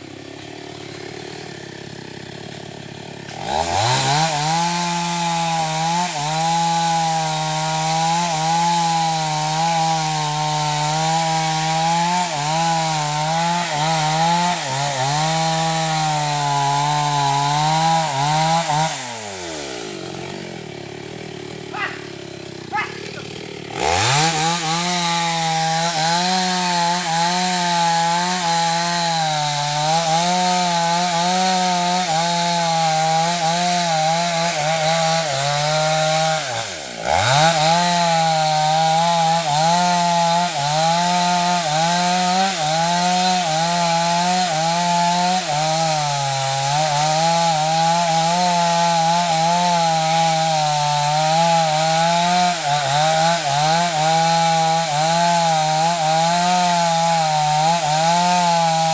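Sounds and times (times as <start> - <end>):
chainsaw cutting wood: 0.0 - 58.9.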